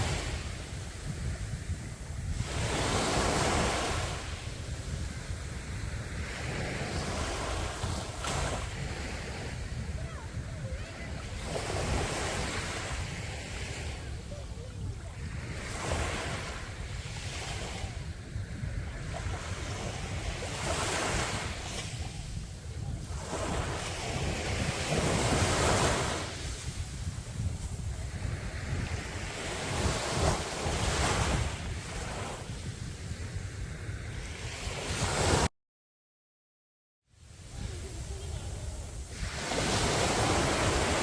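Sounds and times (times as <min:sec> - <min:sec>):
sea waves breaking on beach: 0:00.0 - 0:35.5, 0:37.3 - 0:41.0
wind rumble on microphone: 0:00.0 - 0:35.5, 0:37.2 - 0:41.0.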